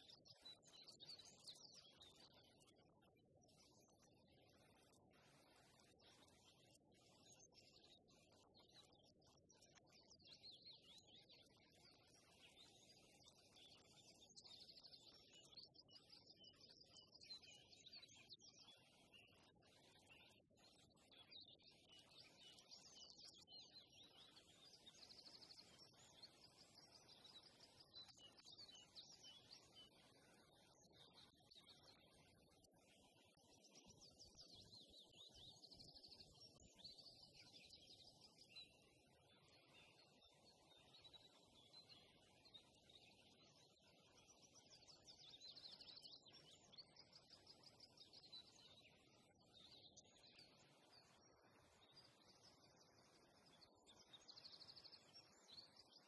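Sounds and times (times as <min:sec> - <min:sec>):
soft low background noise: 0:00.0 - 0:56.0
songbirds singing: 0:00.0 - 0:56.0.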